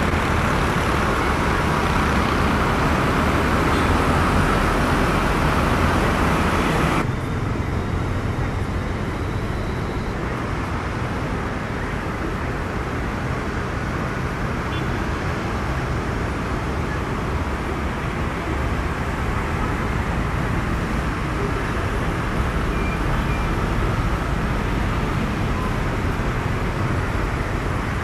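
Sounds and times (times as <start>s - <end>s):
airliner engines roaring: 0.0s - 28.0s
distant aircraft engines: 0.0s - 28.0s.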